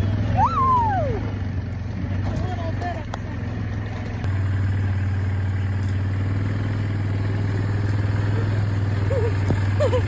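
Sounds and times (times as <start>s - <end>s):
four-wheeler engine running: 0.0s - 10.0s.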